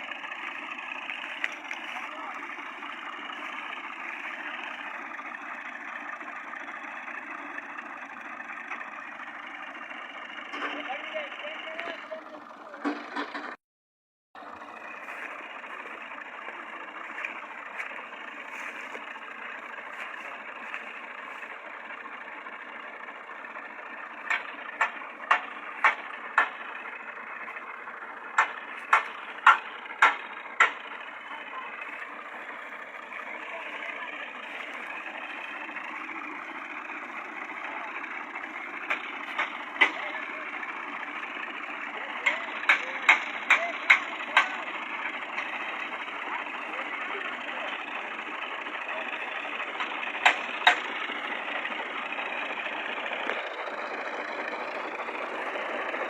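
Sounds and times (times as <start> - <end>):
tractor engines running: 0.0 - 13.6, 14.4 - 56.0.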